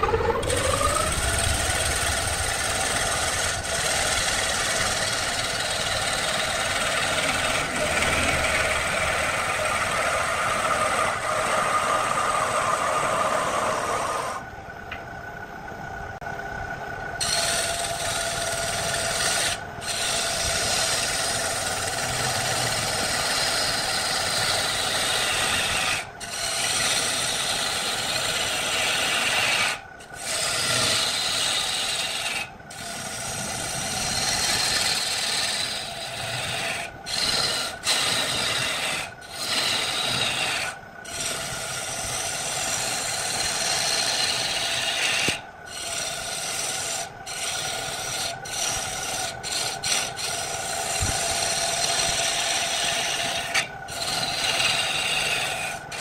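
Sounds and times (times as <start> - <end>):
lathe tool cutting wood: 0.0 - 14.4, 17.2 - 56.0
lathe humming: 0.0 - 15.0, 15.7 - 56.0.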